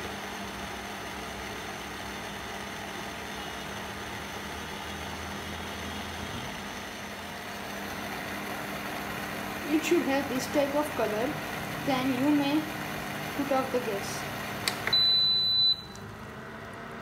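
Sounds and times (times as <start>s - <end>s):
cooktop fan whir: 0.0s - 17.0s.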